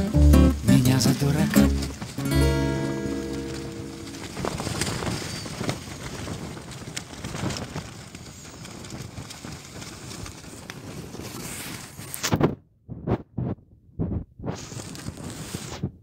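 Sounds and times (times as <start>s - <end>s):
tent fabric flapping in wind: 0.0s - 16.0s.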